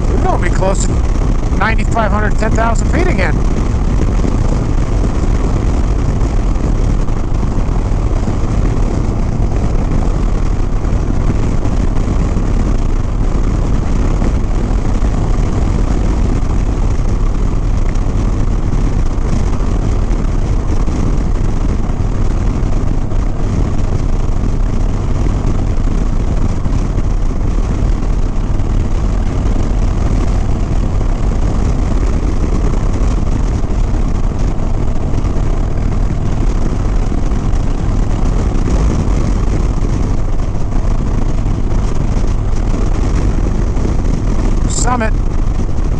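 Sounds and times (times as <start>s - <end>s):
motorcycle engine cruising: 0.0s - 45.9s
wind rushing on microphone: 0.0s - 45.9s.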